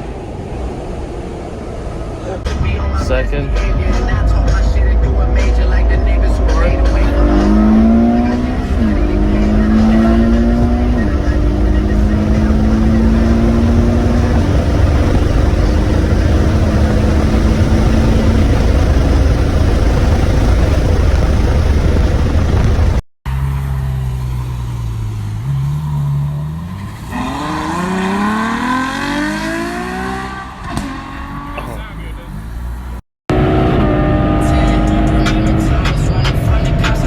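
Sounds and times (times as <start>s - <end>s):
car engine at speed: 0.0s - 37.0s
road and wind rumble: 0.0s - 37.0s.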